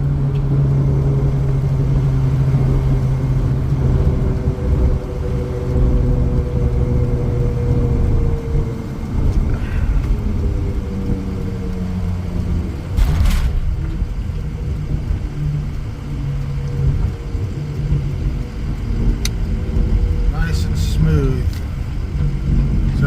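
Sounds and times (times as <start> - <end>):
diesel van engine and road drone: 0.0 - 23.0.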